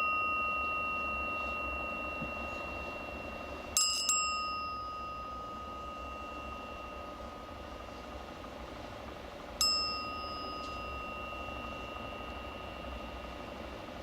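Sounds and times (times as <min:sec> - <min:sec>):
large bell ringing: 0:00.0 - 0:14.0.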